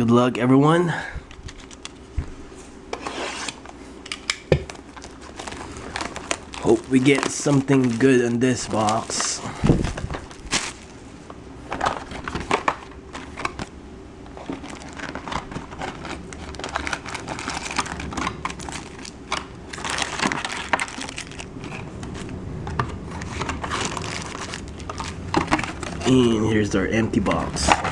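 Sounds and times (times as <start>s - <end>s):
shrink wrap tearing and crinkling: 1.3s - 2.1s, 3.3s - 27.9s.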